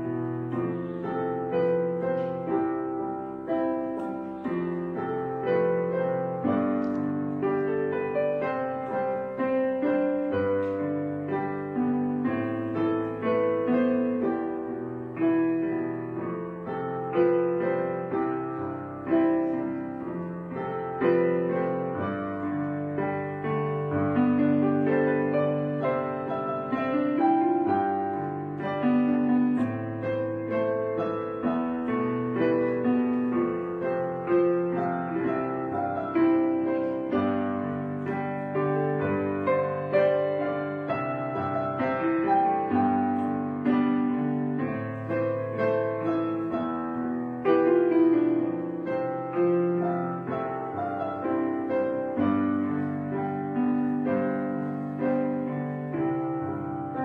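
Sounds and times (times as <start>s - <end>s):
background piano music: 0.0s - 57.0s.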